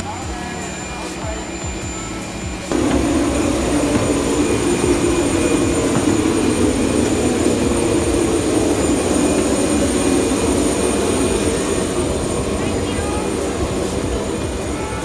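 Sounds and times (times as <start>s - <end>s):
high-pitched jet whine: 0.0s - 15.0s
jet engine rushing noise: 0.0s - 15.0s.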